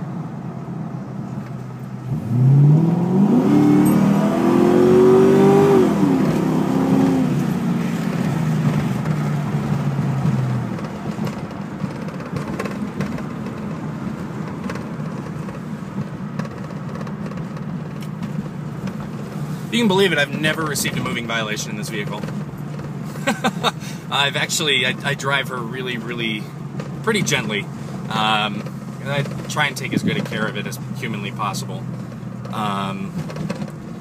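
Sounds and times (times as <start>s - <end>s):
car engine accelerating hard: 0.6s - 34.0s.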